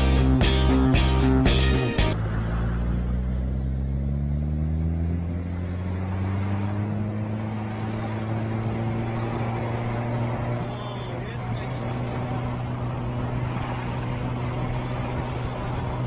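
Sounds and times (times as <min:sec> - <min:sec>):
diesel truck engine revving: 0:00.0 - 0:16.0
wheels spinning on snow: 0:02.2 - 0:16.0.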